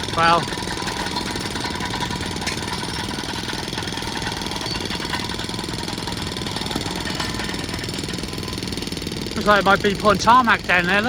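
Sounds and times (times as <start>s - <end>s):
machinery hammering rattle: 0.0s - 11.0s.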